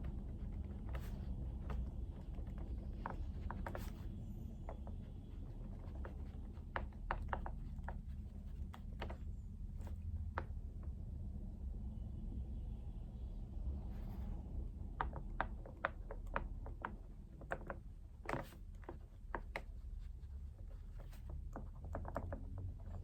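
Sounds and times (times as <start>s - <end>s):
clicks and taps at a desk: 0.0s - 10.9s, 14.2s - 23.0s
low steady hum: 0.0s - 23.0s.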